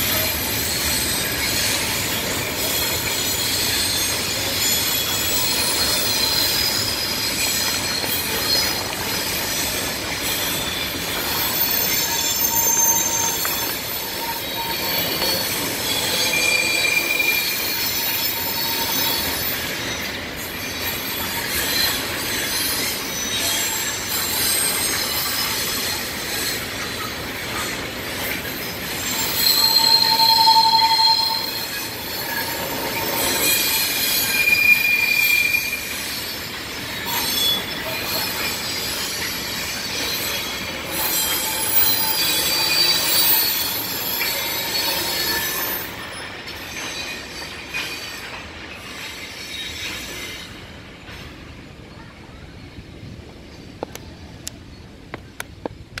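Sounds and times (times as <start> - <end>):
train wheels squealing: 0.0 - 54.9
freight train rolling: 0.0 - 56.0.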